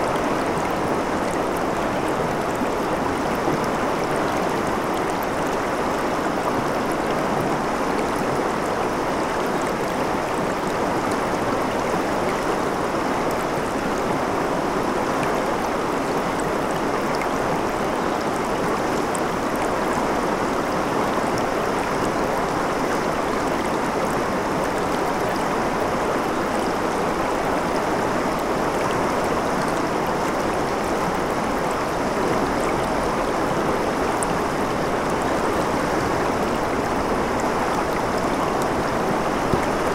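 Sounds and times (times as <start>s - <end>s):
river water running over rocks: 0.0s - 39.9s.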